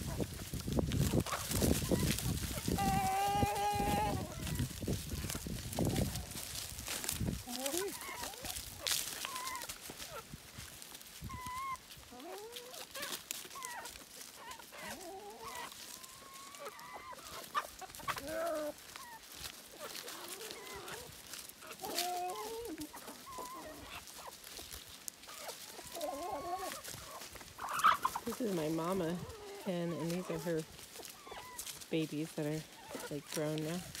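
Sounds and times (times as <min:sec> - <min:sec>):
clicks and rustles in dry leaves: 0:00.0 - 0:34.0
hens clucking: 0:00.0 - 0:34.0.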